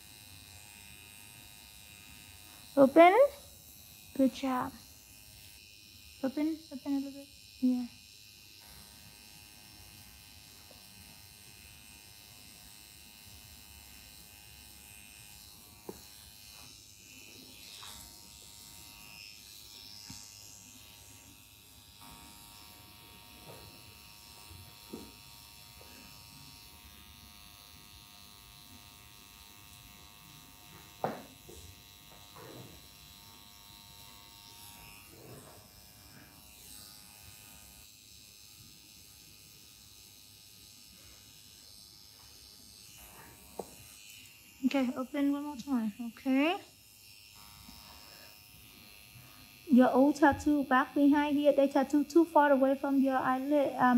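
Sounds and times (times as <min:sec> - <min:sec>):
tattoo machine buzzing: 0:00.0 - 0:53.9.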